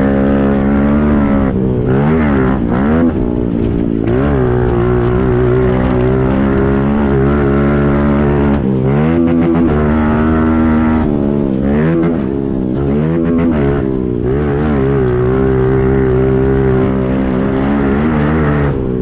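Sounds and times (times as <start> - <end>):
dirt bike engine revving high: 0.0 - 19.0.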